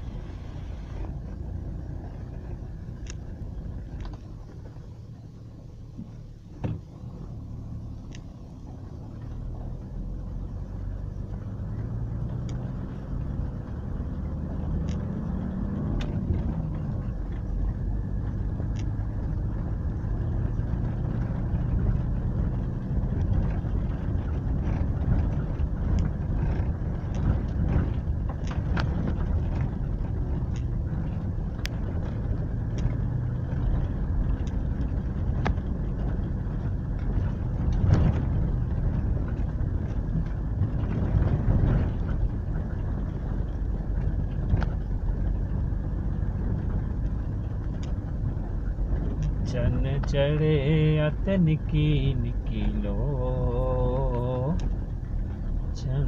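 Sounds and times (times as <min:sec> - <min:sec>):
car engine running: 0:00.0 - 0:56.0
tyre and road noise: 0:00.0 - 0:56.0.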